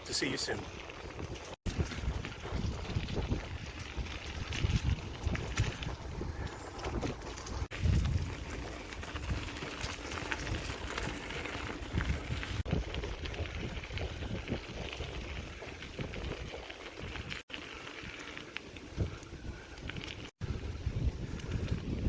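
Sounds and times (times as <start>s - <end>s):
bicycle tyres rolling on gravel: 0.0s - 22.0s
wind buffeting microphone: 0.8s - 22.0s.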